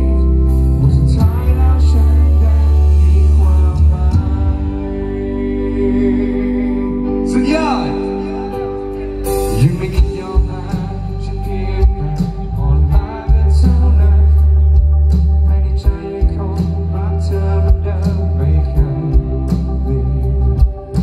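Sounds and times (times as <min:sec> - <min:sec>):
man singing: 0:00.0 - 0:21.0
pop-rock band playing live: 0:00.0 - 0:21.0.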